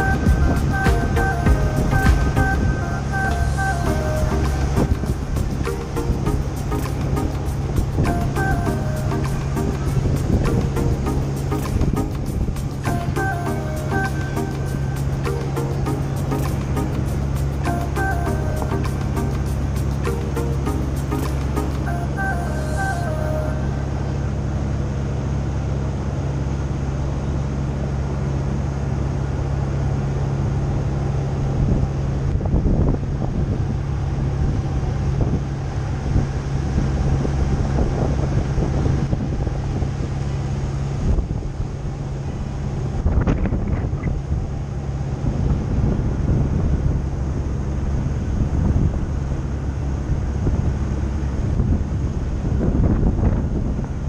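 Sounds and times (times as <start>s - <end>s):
wind buffeting microphone: 0.0s - 22.3s, 31.5s - 54.0s
boat engine humming: 0.0s - 54.0s.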